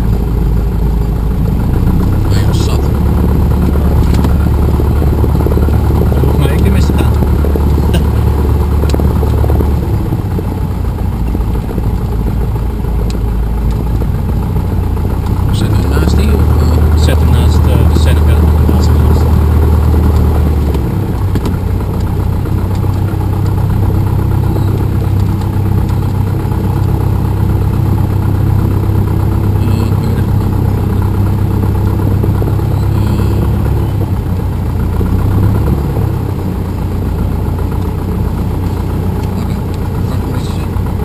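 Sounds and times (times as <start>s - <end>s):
aircraft engine droning: 0.0s - 41.0s.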